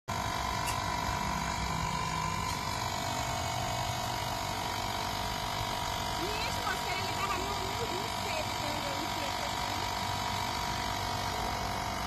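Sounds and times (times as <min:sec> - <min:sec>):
air compressor motor whine: 0:00.1 - 0:12.0.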